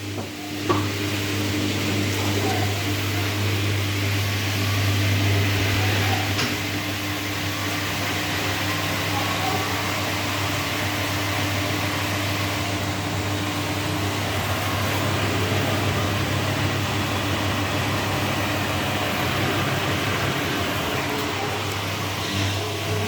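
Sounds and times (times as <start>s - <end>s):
washing machine spin cycle: 0.0s - 23.0s.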